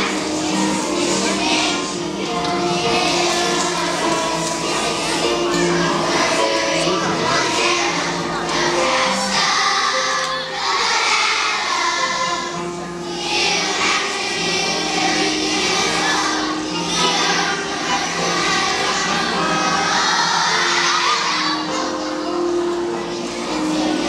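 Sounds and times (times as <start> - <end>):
children's choir singing: 0.0 - 24.0
musical accompaniment: 0.0 - 24.0.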